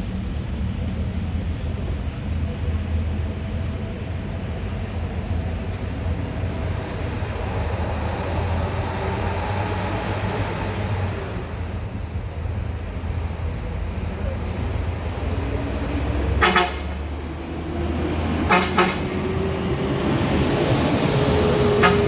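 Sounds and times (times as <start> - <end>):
bus diesel engine rumbling: 0.0 - 22.0.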